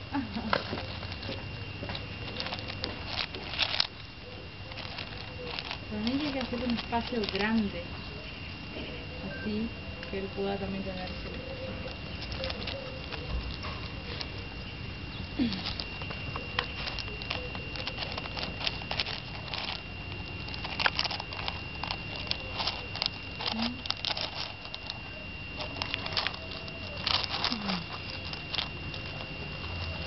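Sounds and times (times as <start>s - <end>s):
gravel stones clicking: 0.0s - 30.0s.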